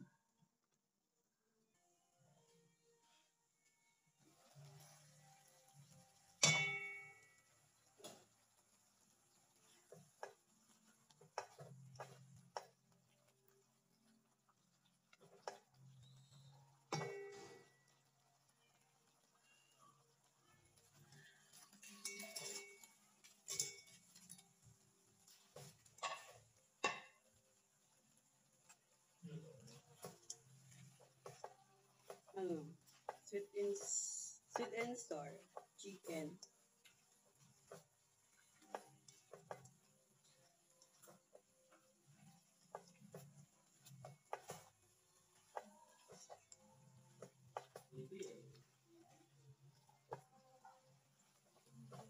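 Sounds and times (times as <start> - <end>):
spatula tapping and scraping wok: 4.4 - 52.0.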